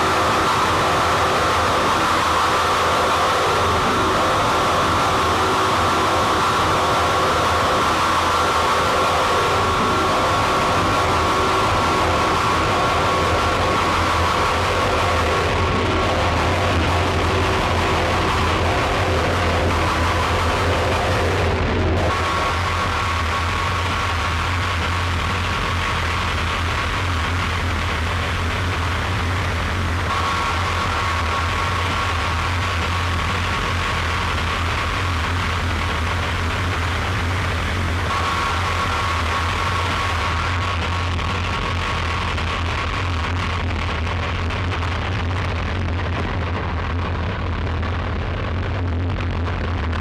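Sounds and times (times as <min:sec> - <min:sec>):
distorted static hiss: 0:00.0 - 0:50.0
low droning hum: 0:00.0 - 0:50.0.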